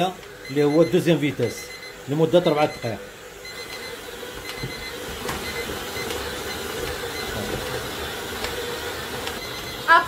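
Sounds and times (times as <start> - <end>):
stand mixer motor hum and whine: 0.0 - 10.0.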